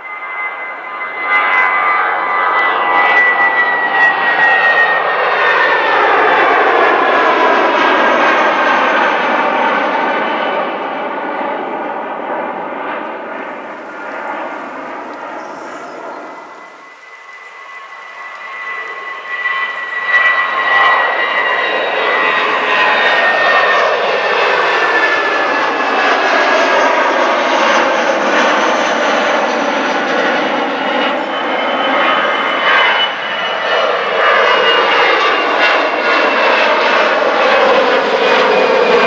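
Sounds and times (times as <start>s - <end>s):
jet airliner engine noise: 0.0s - 39.0s.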